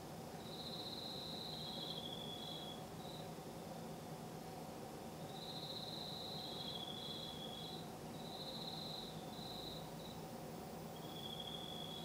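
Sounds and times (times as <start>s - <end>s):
faint low hum: 0.0s - 12.0s
crickets trilling: 0.4s - 3.3s, 5.2s - 12.0s.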